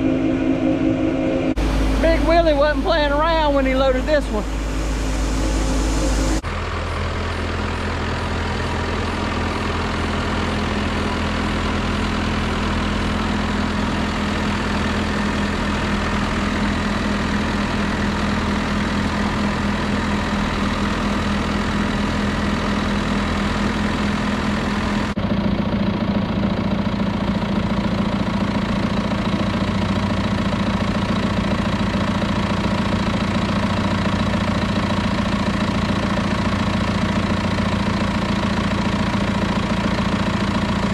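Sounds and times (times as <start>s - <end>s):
heavy engine idling: 0.0s - 40.9s
low hum: 0.0s - 40.9s.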